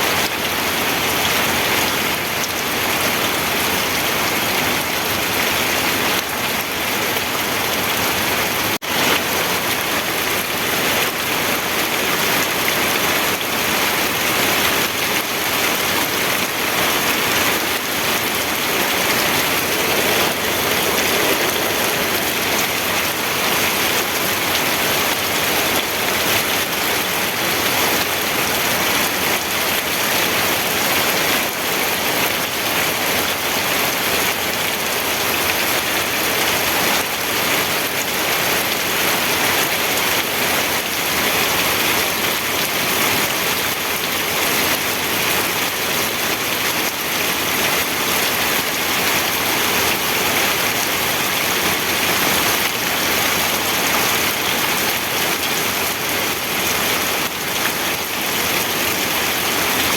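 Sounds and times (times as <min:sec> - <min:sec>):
rain on surfaces: 0:00.0 - 0:59.9.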